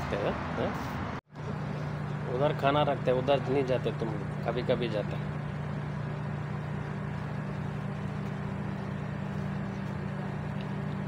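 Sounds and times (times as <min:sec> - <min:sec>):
low machine hum: 0:01.0 - 0:11.0.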